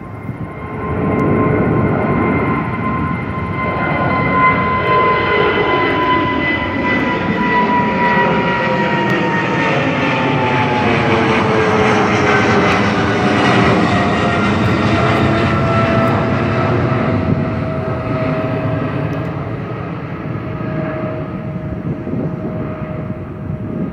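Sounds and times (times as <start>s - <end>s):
jet airliner taking off: 0.0s - 23.9s.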